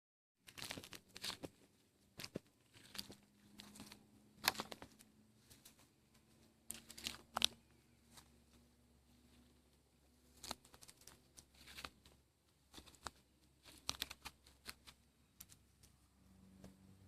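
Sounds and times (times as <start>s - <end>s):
rustling and crackling: 0.4s - 16.8s
faint low hum: 0.7s - 17.0s.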